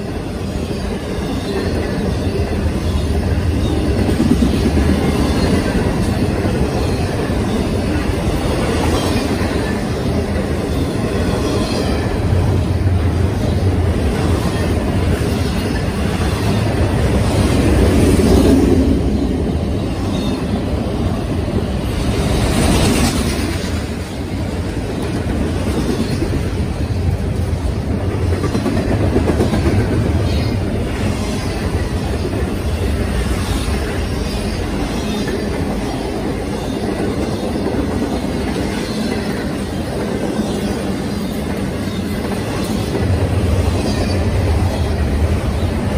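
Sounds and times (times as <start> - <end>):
freight train wheels rumbling on rails: 0.0 - 45.9.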